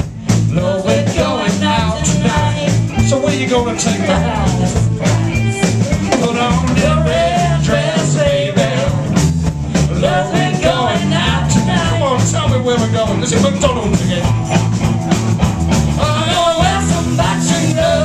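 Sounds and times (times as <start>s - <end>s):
bass guitar: 0.0s - 18.0s
bending lead guitar melody: 0.0s - 18.0s
drums on a steady beat: 0.0s - 18.0s
electric guitars: 0.0s - 18.0s.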